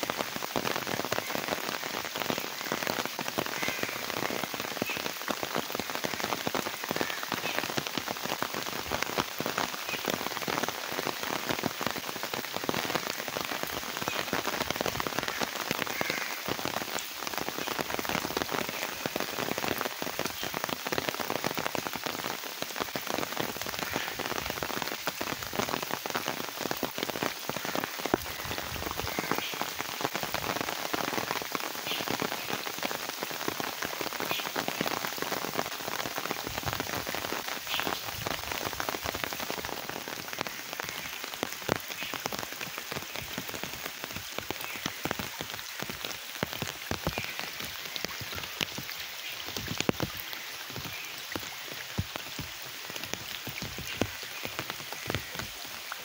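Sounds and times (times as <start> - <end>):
rain on puddles: 0.0 - 56.0.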